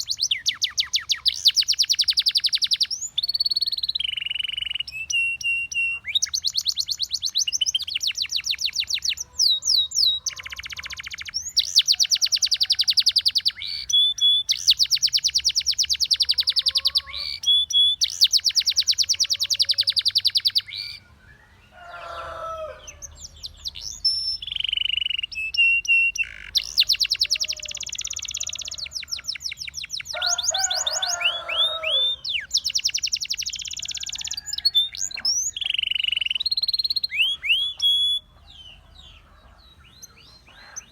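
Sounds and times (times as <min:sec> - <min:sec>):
canary trilling: 0:00.0 - 0:21.0, 0:21.8 - 0:40.9.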